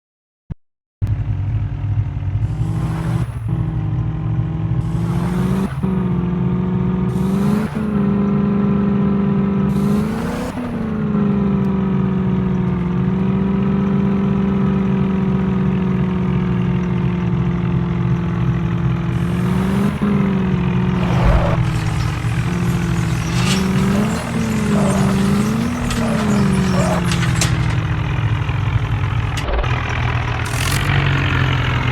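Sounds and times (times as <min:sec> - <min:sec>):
tractor engine running: 0:01.0 - 0:31.9.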